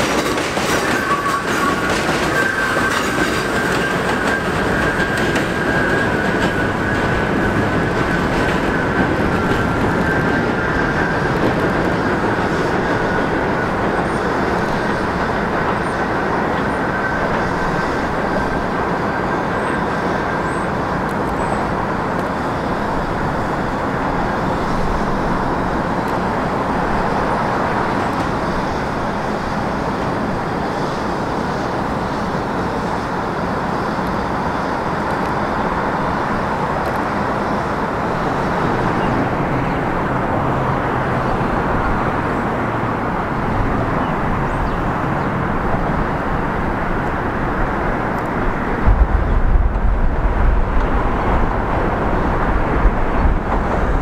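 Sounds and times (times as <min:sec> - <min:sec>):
city traffic noise: 0:00.0 - 0:54.0
subway train on elevated steel line: 0:00.0 - 0:54.0.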